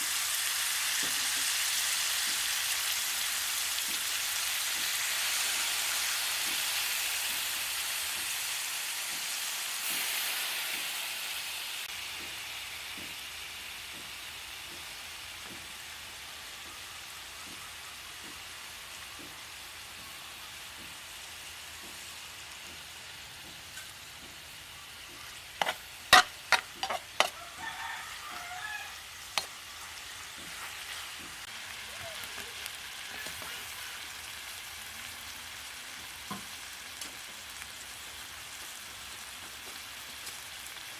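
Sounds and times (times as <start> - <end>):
squid sizzling: 0.0 - 40.9.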